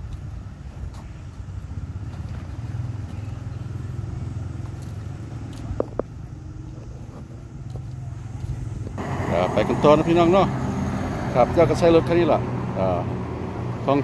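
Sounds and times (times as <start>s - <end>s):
vehicle engine running: 1.2s - 14.0s.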